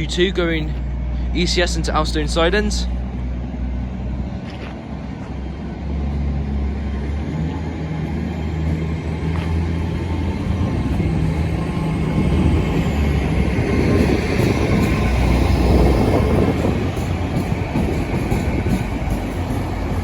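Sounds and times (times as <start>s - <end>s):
train diesel engines humming: 0.0s - 20.0s.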